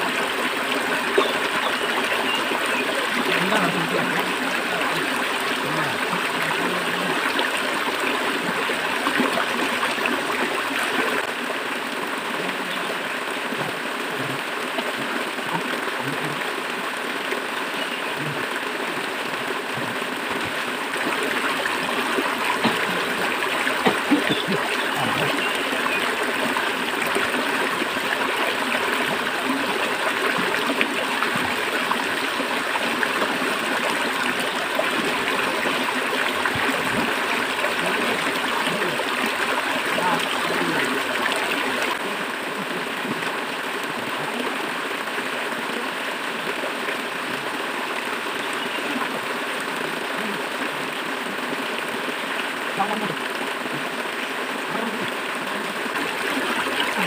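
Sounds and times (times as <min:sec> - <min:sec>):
river water rushing and gurgling: 0:00.0 - 0:57.0.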